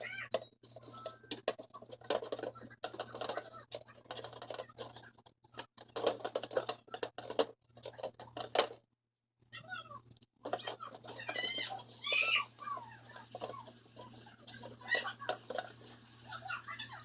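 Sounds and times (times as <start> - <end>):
objects scraping and rustling: 0.0 - 8.8, 10.4 - 17.0.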